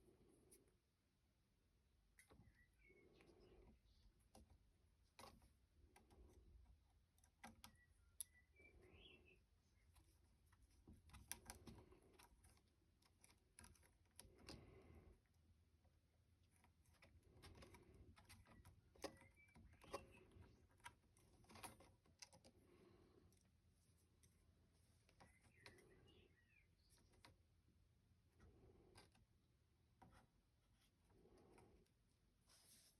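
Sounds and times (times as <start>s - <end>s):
small parts handled by hand: 2.0s - 32.9s.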